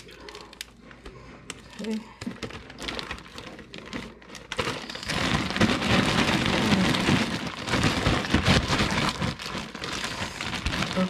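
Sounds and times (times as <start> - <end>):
fruit rattling in a bag: 0.0 - 11.0
plastic bag crinkling: 0.0 - 11.0.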